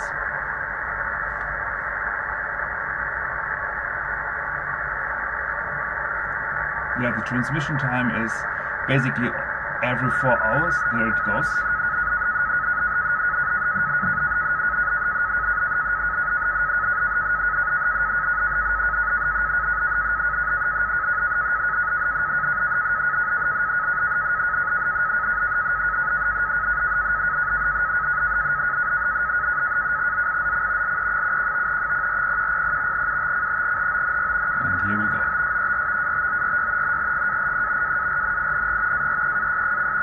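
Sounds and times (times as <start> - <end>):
receiver hiss: 0.0 - 40.0
warbling two-tone data signal: 0.0 - 40.0.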